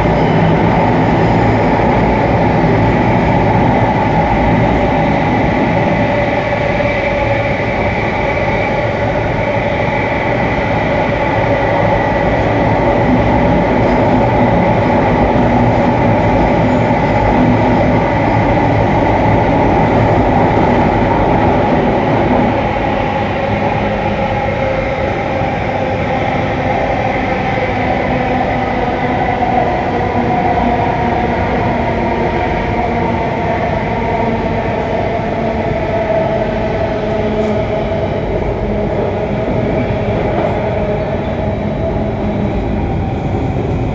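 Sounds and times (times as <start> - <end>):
train carriage rush and hum: 0.0 - 43.9.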